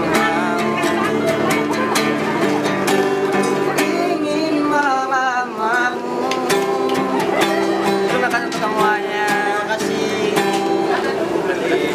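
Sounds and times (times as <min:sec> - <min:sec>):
men singing together: 0:00.0 - 0:01.8, 0:03.4 - 0:11.9
strummed acoustic guitar: 0:00.0 - 0:11.9.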